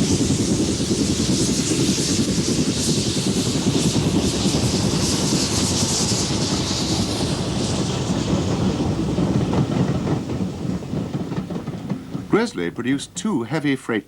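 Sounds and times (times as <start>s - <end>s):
steam hissing: 0.0s - 13.5s
steam locomotive wheels clattering: 0.0s - 13.7s.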